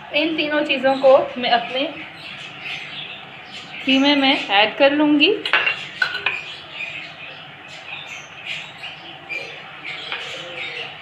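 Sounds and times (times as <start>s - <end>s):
low room noise: 0.0s - 11.0s
small birds chirping: 0.0s - 11.0s.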